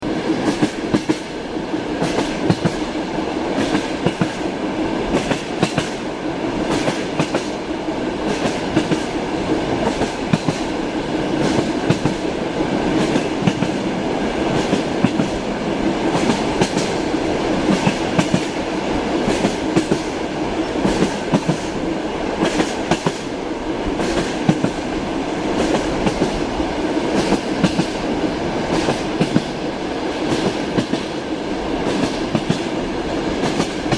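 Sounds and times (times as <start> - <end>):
moving train carriage rumble: 0.0 - 33.9
train wheels clicking over rail joints: 0.2 - 4.5, 5.1 - 23.4, 24.0 - 24.9, 25.5 - 26.4, 27.0 - 33.9.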